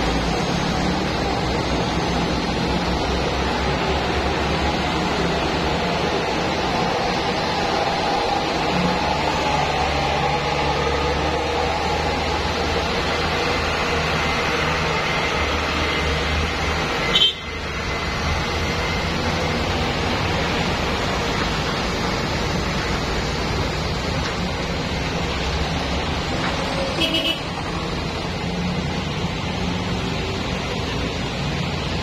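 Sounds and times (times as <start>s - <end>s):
heavy truck engines running: 0.0s - 32.0s
road and traffic noise: 0.0s - 32.0s.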